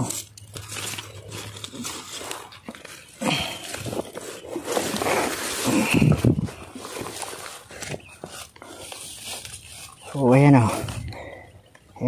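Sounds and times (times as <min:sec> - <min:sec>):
leaves and stems rustling: 0:00.0 - 0:11.3.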